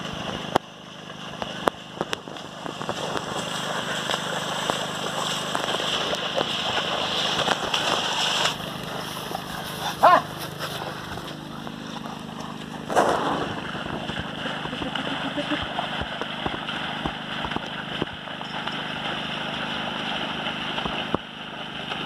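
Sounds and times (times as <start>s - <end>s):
splashing through mud and water: 0.0s - 22.0s
steady low hum: 0.0s - 22.0s.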